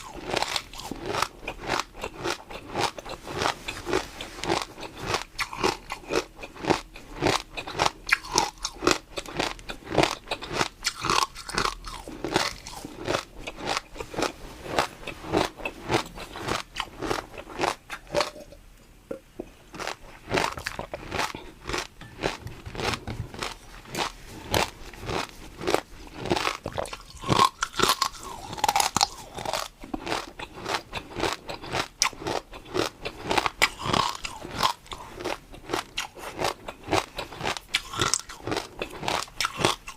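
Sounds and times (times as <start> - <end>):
person chewing crunchy food: 0.0 - 18.5, 19.6 - 39.9.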